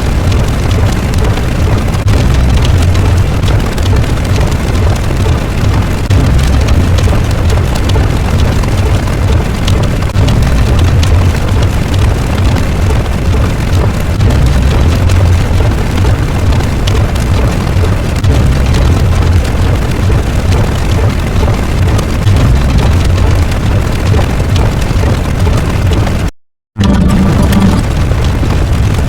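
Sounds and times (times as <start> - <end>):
deep rumbling noise: 0.0 - 29.0
dense crackle: 0.0 - 29.0.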